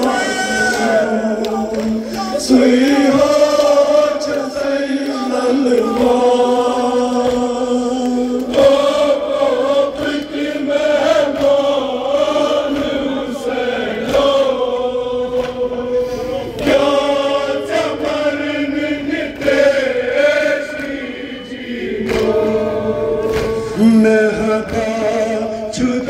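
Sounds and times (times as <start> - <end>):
person reciting into a microphone: 0.0 - 21.8, 22.4 - 26.0
crowd of men chanting: 0.0 - 26.0.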